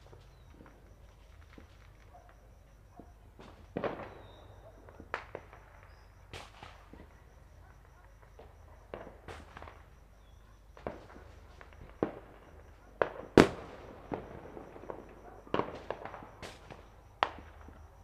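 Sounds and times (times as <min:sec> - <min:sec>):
distant fireworks bangs and pops: 0:00.0 - 0:18.0.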